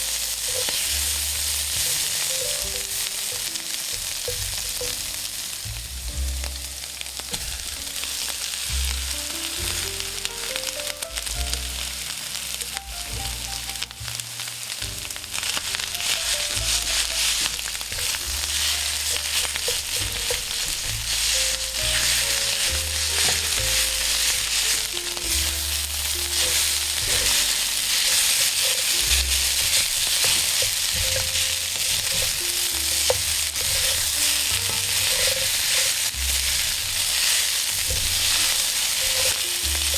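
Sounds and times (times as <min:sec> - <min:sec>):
food sizzling on a griddle: 0:00.0 - 0:39.9
quiet melody: 0:00.0 - 0:39.9.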